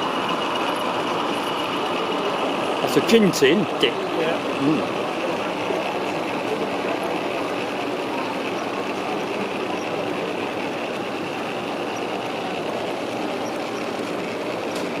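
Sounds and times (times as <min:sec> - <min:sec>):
exhibition hall din: 0:00.0 - 0:15.0
model train running: 0:00.0 - 0:15.0.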